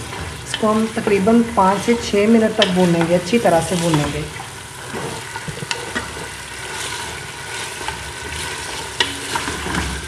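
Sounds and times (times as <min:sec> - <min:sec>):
meat sizzling in hot oil: 0:00.0 - 0:10.0
wooden spoon stirring: 0:00.0 - 0:10.0.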